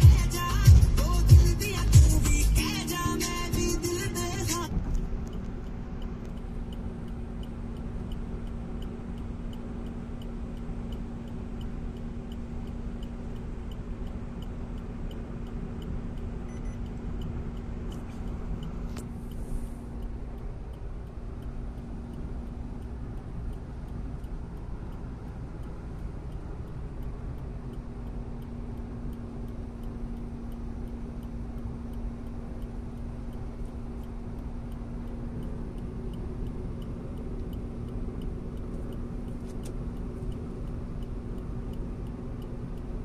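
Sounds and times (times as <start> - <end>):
car road noise and engine hum: 0.0 - 43.0
light regular ticking: 0.0 - 43.0.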